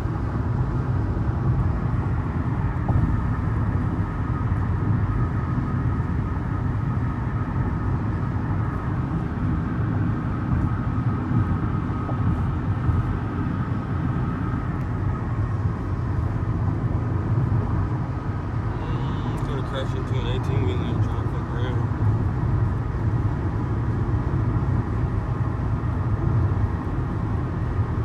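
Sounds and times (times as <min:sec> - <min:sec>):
car driving on highway: 0:00.0 - 0:28.0.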